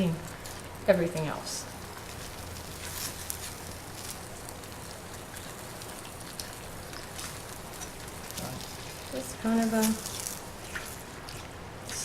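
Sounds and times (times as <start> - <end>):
gravy crackling in a pan: 0.0 - 12.0.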